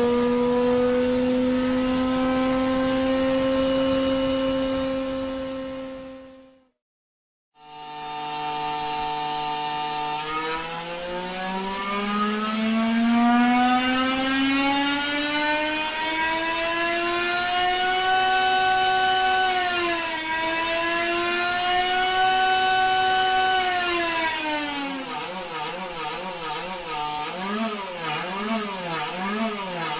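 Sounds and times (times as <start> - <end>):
racing car engine revving: 0.0 - 6.5, 9.8 - 29.9.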